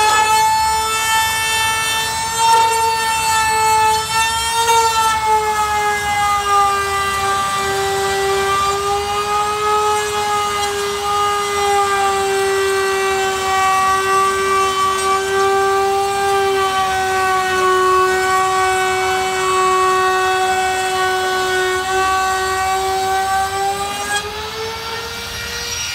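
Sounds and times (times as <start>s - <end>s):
router motor whining cutting metal: 0.0s - 25.9s.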